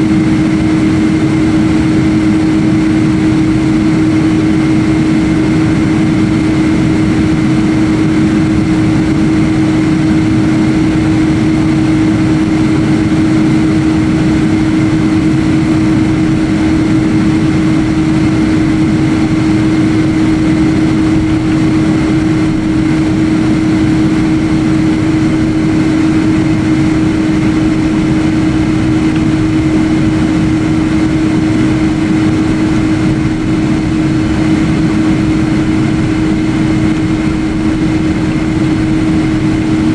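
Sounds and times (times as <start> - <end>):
high engine whine: 0.0 - 39.9
jet engine cabin drone: 0.0 - 39.9.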